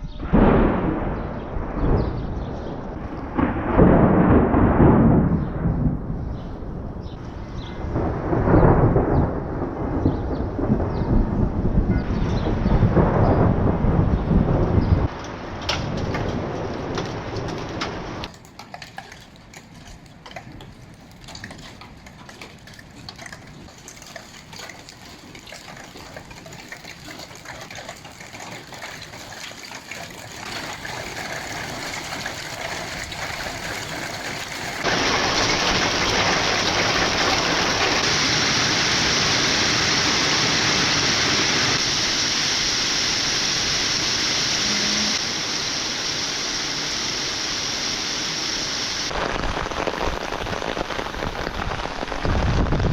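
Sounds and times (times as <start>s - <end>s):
heavy downpour: 0.0s - 18.7s, 20.2s - 52.9s
rain: 0.0s - 52.9s.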